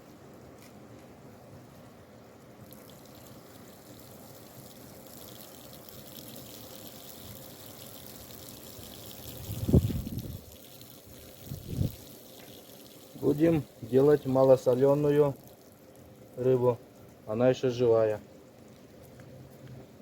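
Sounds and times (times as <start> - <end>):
water trickling: 2.6 - 19.2.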